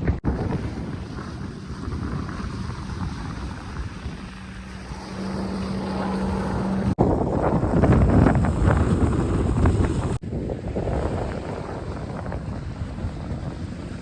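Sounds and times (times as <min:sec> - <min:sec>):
steady low hum: 0:00.0 - 0:14.0
wind and water rushing: 0:00.0 - 0:14.0.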